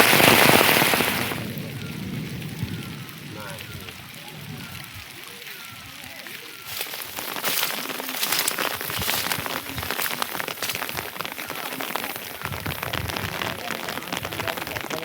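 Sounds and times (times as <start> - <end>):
rain on a hard surface: 0.0 - 15.0.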